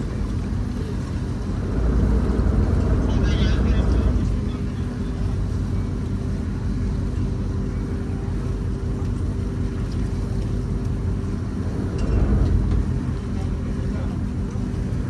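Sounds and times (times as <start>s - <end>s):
boat engines humming: 0.0s - 15.0s
deep engine rumble: 0.0s - 15.0s.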